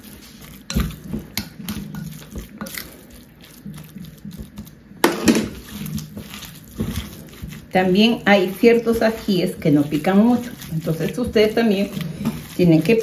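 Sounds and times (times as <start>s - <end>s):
hands squelching ground meat: 0.0s - 13.0s.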